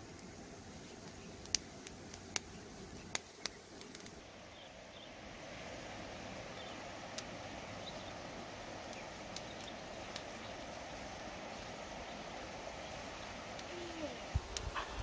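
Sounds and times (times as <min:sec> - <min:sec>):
charcoal fire crackling: 0:00.0 - 0:15.0.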